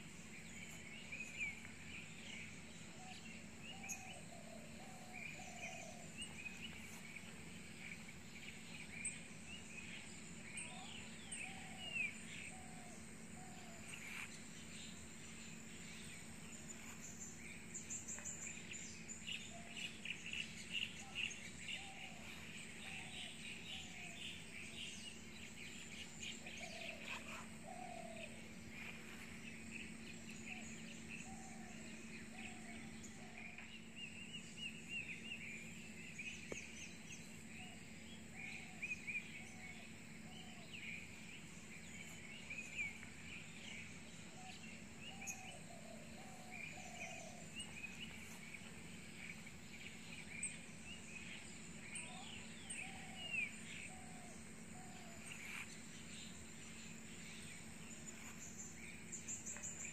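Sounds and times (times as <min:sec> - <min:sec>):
birds chirping and twittering: 0:00.0 - 0:59.9
steady low hum: 0:00.0 - 0:59.9.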